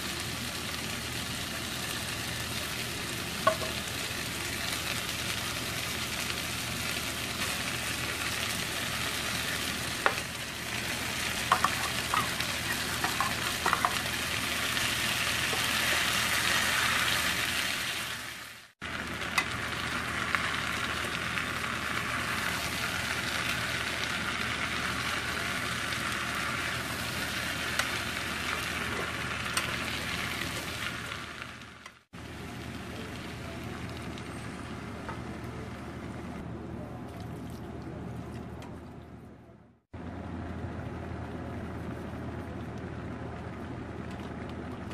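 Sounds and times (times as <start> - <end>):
food sizzling in a frying pan: 0.0 - 36.2.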